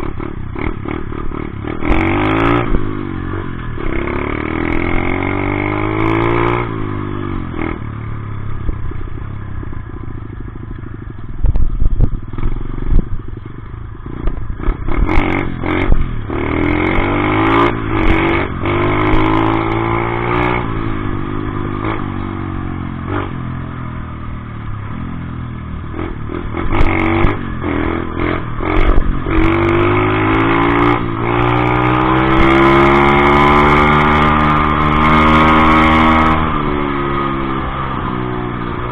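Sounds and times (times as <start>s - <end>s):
dirt bike engine revving: 0.0s - 7.9s, 12.3s - 23.4s, 25.9s - 38.9s.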